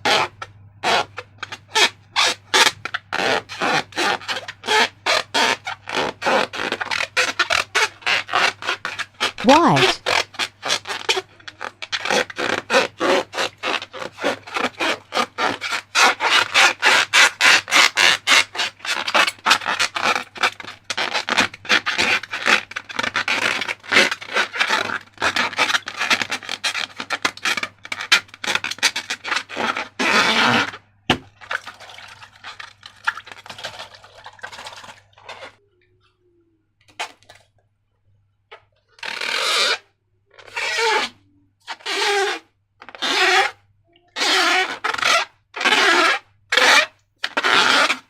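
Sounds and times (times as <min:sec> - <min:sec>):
slime rubbing and scraping: 0:00.0 - 0:35.6, 0:39.0 - 0:39.8, 0:40.4 - 0:43.6, 0:44.2 - 0:48.0.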